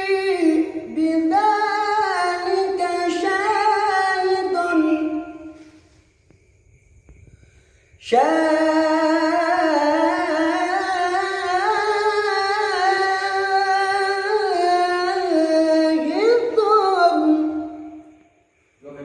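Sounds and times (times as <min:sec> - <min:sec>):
person singing unaccompanied: 0:00.0 - 0:05.6, 0:08.0 - 0:18.0.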